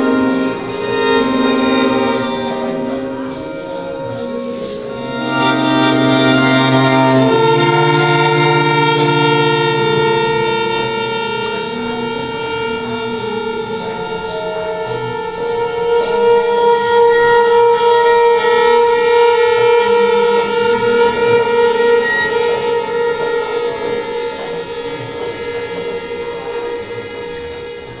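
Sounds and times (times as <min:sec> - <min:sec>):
string quartet playing chords: 0:00.0 - 0:28.0.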